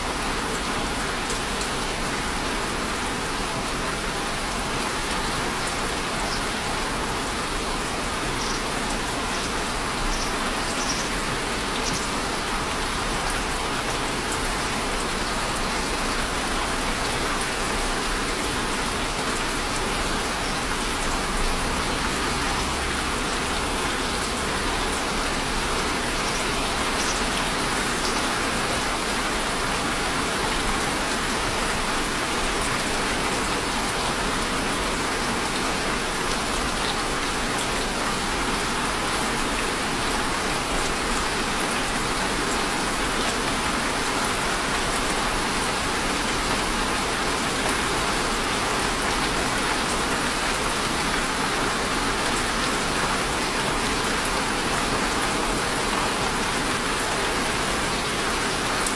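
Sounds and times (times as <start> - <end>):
steady rain hissing: 0.0 - 58.9.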